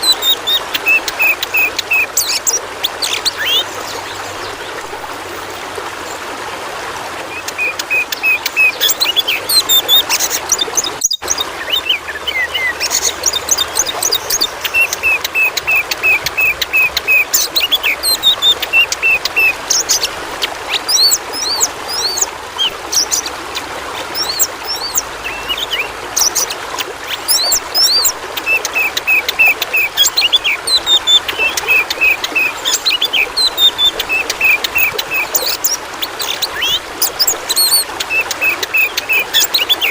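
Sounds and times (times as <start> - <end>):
bird singing: 0.0 - 4.9, 7.3 - 39.9
running water rushing: 0.0 - 39.9.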